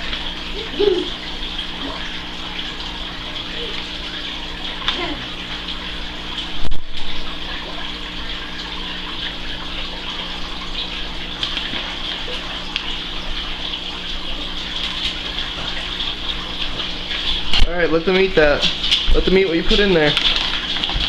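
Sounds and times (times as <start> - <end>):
aquarium bubbler bubbling water: 0.0 - 21.0.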